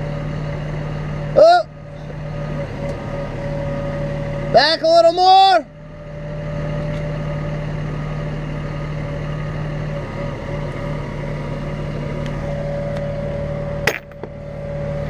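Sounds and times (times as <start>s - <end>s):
engine humming with whine: 0.0s - 15.0s.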